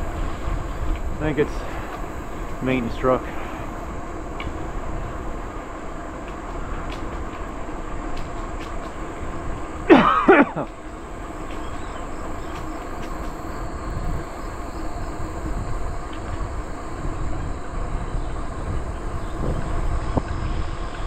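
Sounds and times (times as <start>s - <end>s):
bicycle rolling noise: 0.0s - 21.0s
wind: 0.0s - 21.0s.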